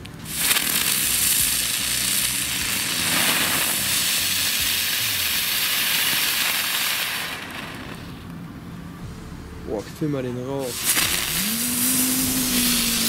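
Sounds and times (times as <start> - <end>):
firework spark spray hissing: 0.0 - 8.4, 10.6 - 13.0.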